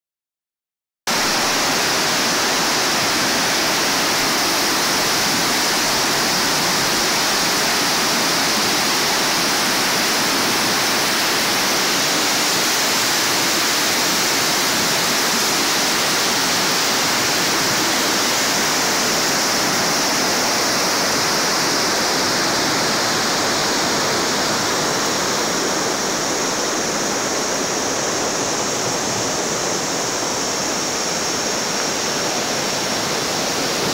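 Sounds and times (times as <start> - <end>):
water rushing over weir: 1.1 - 33.9.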